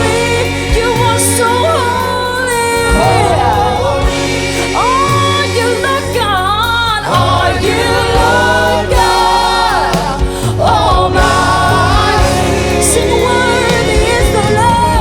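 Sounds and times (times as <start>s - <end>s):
worship band and singers: 0.0s - 15.0s.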